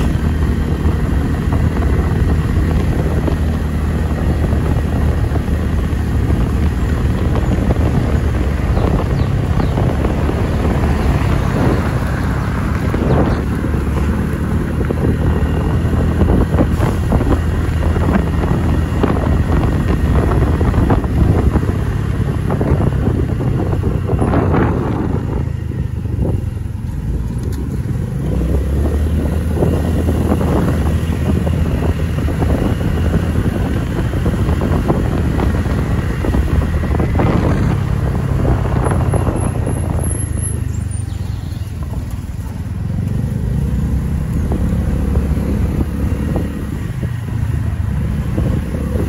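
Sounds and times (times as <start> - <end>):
motorcycle engine running: 0.0 - 49.0
wind buffeting microphone: 0.0 - 49.0.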